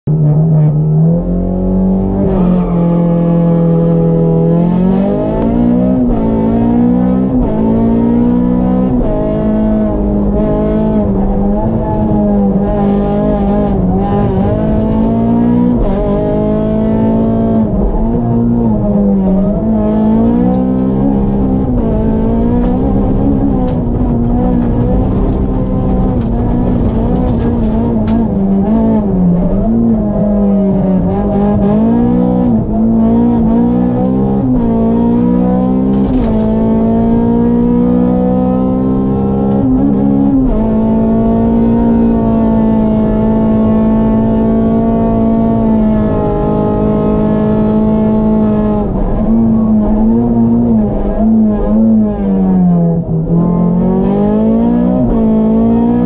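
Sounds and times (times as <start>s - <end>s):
rally car engine revving: 0.1s - 56.0s.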